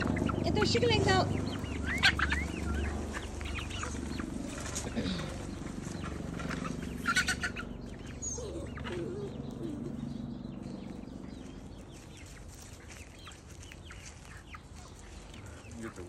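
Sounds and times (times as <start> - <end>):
hens chirping and clucking: 0.0 - 16.0.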